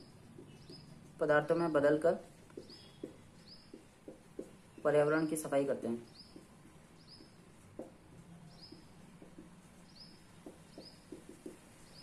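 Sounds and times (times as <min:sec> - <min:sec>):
marker writing on paper: 0:00.0 - 0:01.6, 0:02.3 - 0:04.8, 0:06.1 - 0:12.0.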